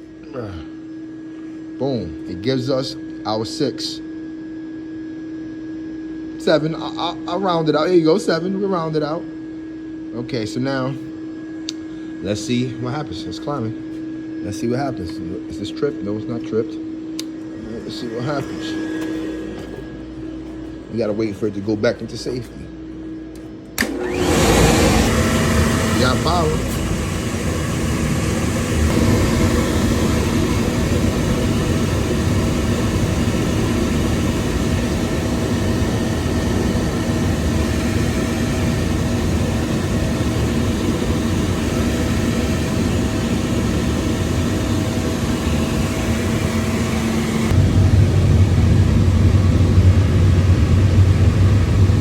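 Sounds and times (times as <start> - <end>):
gas boiler burner running: 0.0 - 52.0.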